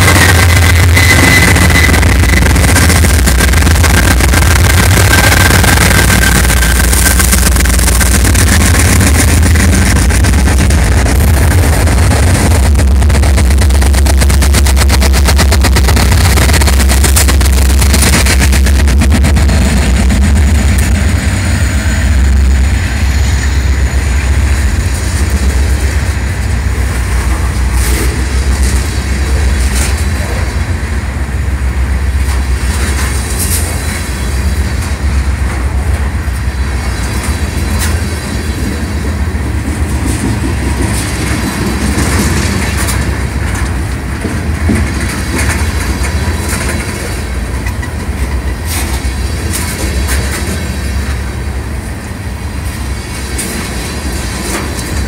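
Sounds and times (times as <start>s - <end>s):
wheels clacking over rail joints: 0.0s - 31.2s, 31.9s - 55.0s
freight cars rumbling on rails: 0.0s - 55.0s
low diesel drone: 0.0s - 55.0s.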